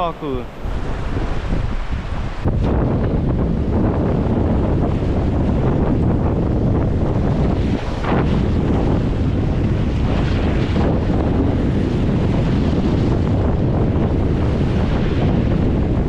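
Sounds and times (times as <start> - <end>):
steady surf: 0.0 - 16.0
wind buffeting microphone: 0.0 - 16.0.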